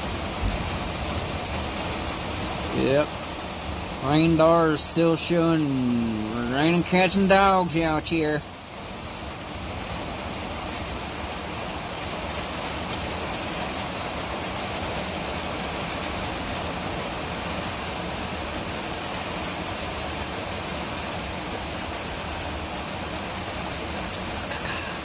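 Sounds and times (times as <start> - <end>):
heavy rain on a tin roof: 0.0 - 25.0.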